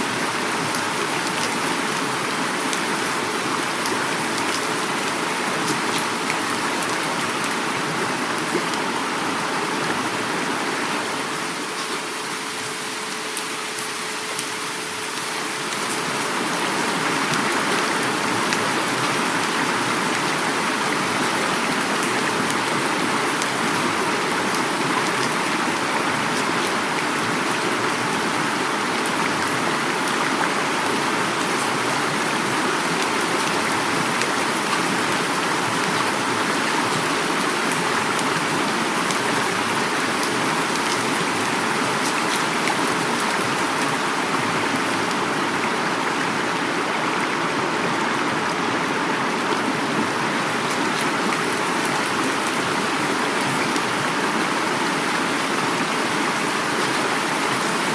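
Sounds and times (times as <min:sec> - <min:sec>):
heavy rain falling: 0:00.0 - 0:57.9
river flowing: 0:00.0 - 0:57.9.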